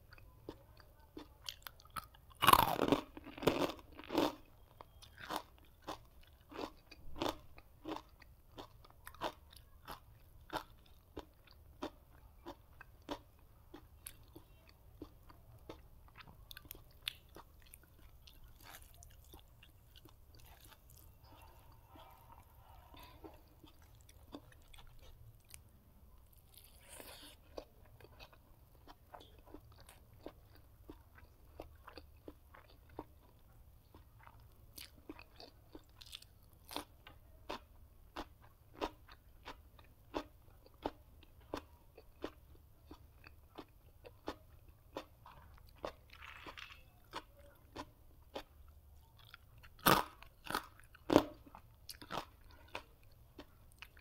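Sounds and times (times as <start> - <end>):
person chewing crunchy food: 0.0 - 25.6, 26.2 - 54.0.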